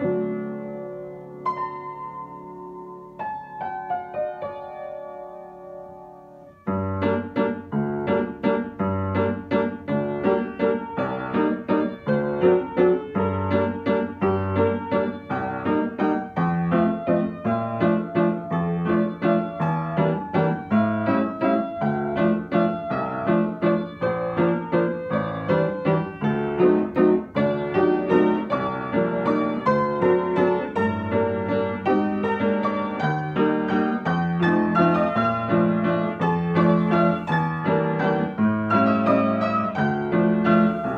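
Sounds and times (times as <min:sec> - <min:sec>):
upright piano piece: 0:00.0 - 0:40.9.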